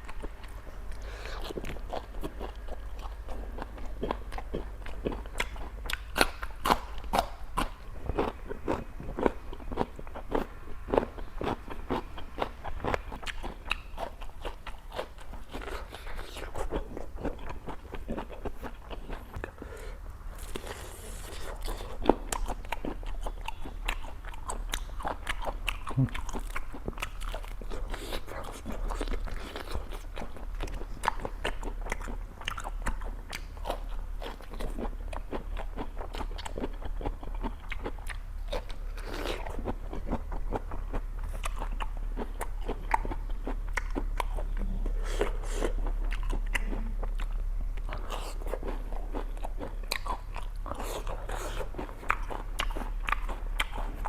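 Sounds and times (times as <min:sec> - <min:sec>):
chewing crunchy food: 0:00.0 - 0:54.0
steady low hum: 0:00.0 - 0:54.0.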